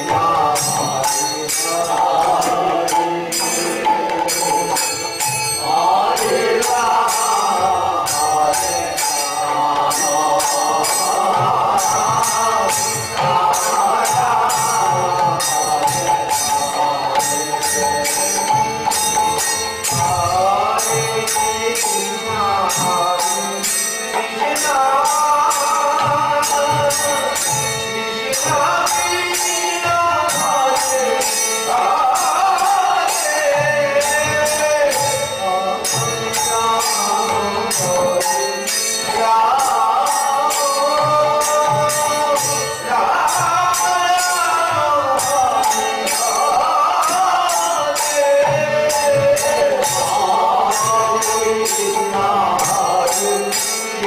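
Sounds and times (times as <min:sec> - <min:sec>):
jingling percussion: 0:00.0 - 0:54.0.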